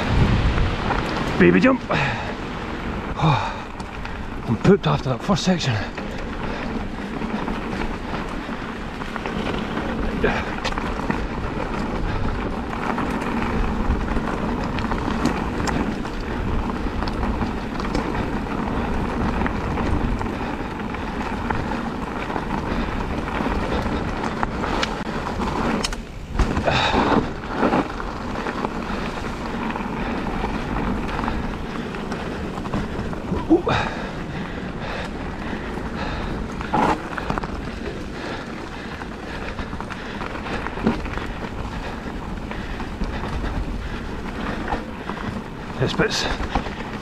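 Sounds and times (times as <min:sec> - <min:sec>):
bike rattle: 0:00.0 - 0:47.0
tyre rumble on dirt: 0:00.0 - 0:47.0
wind buffeting microphone: 0:00.0 - 0:47.0.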